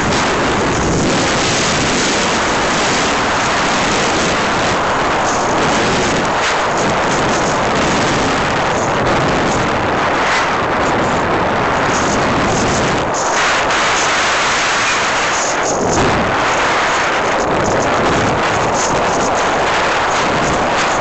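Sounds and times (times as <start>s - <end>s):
light aircraft engine and wind: 0.0s - 21.0s.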